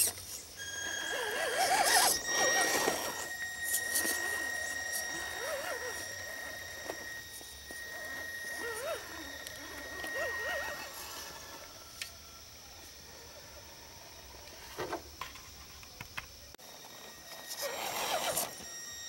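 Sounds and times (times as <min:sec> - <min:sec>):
electric motor and gears whining: 0:00.0 - 0:13.0, 0:16.6 - 0:19.0.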